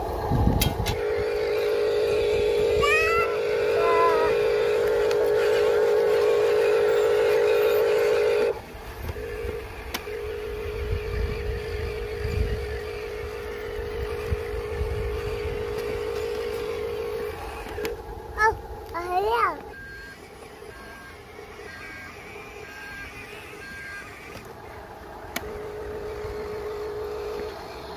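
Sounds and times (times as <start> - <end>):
toy truck electric motor whining: 0.0 - 27.9.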